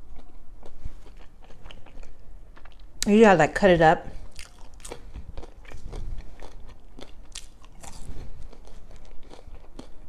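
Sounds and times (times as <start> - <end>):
person chewing crunchy food: 0.0 - 3.1, 4.2 - 10.0.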